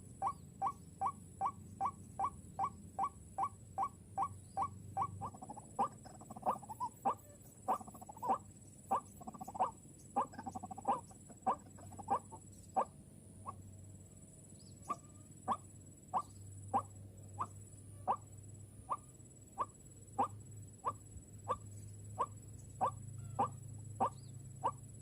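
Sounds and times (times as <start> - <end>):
waterhen calls: 0.0 - 13.6, 14.8 - 18.3, 18.9 - 21.6, 22.2 - 24.8.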